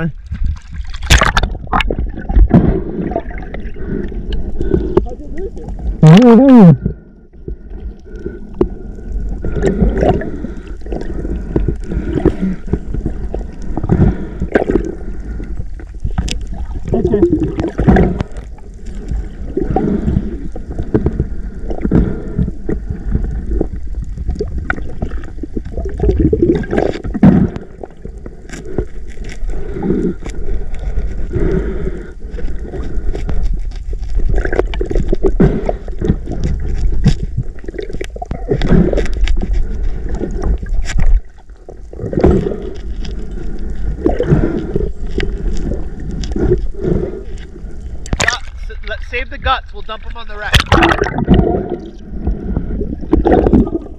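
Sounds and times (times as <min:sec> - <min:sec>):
knocks and scrapes underwater: 0:00.0 - 0:06.1, 0:06.8 - 0:53.9
water churning underwater: 0:00.0 - 0:53.9.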